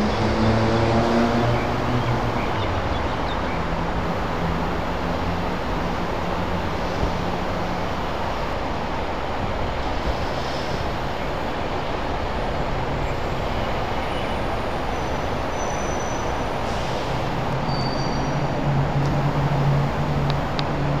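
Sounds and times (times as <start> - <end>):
motorway traffic roar: 0.0 - 21.0.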